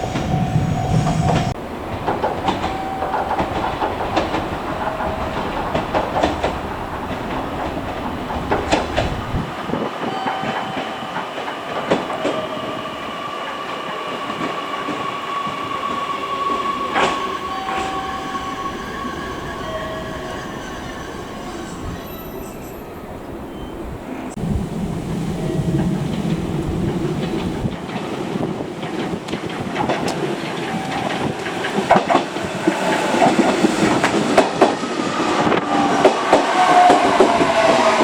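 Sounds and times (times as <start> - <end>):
train wheels clicking over rail joints: 0.0 - 12.8, 13.4 - 21.0, 24.8 - 38.0
steady train whine: 0.0 - 38.0.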